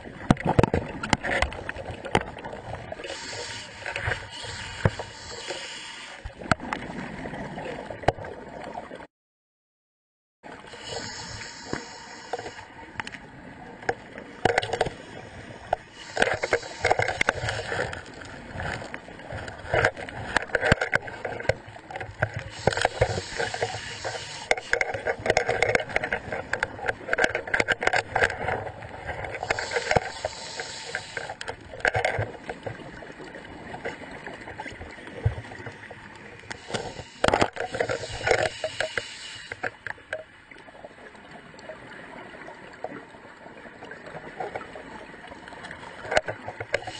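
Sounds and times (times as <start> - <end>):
water bubbling and gurgling: 0.0 - 9.1, 10.4 - 46.9.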